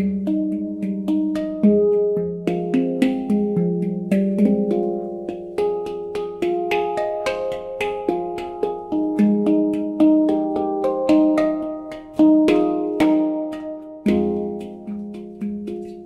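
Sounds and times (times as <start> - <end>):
handpan melody: 0.0 - 16.0.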